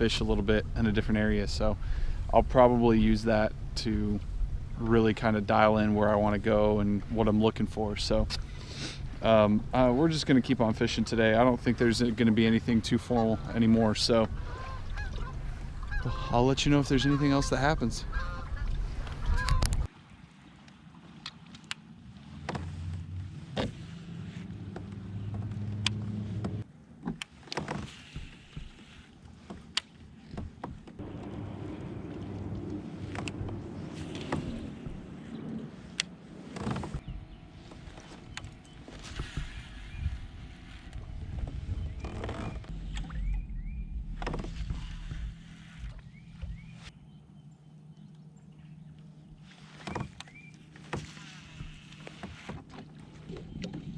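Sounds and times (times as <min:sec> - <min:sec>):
kayak drive humming: 0:00.0 - 0:53.9.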